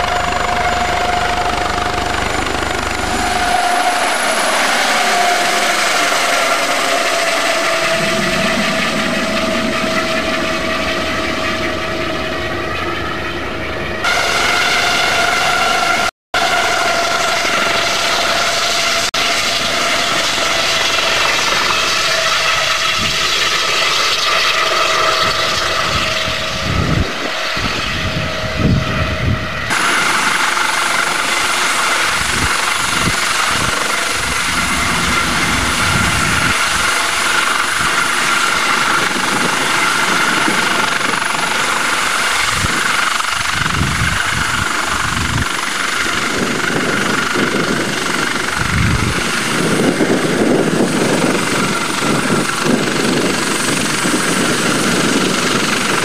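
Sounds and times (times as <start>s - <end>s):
helicopter rotor and turbine whine: 0.0s - 56.0s.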